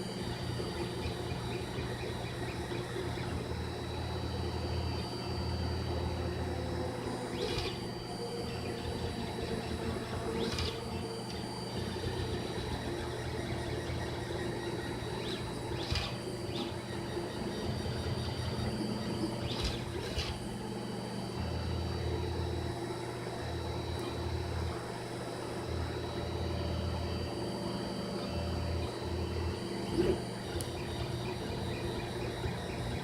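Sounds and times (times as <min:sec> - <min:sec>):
stepper motors whirring: 0:00.0 - 0:33.0.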